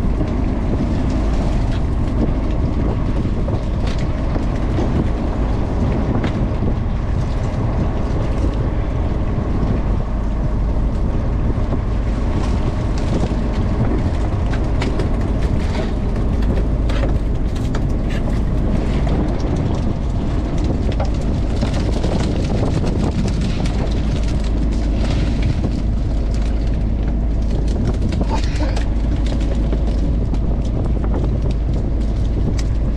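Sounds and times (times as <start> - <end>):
diesel engine drone: 0.0 - 32.9.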